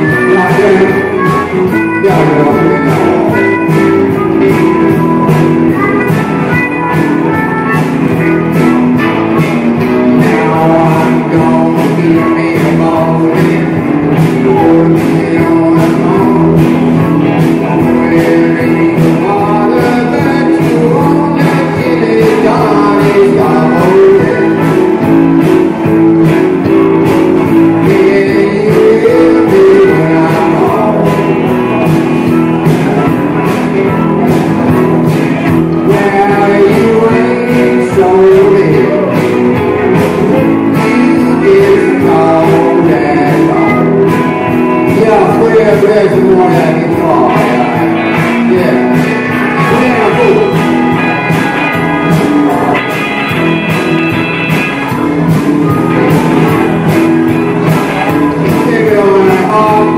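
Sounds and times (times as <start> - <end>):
person singing: 0.0 - 59.9
rock and roll band playing: 0.0 - 59.9.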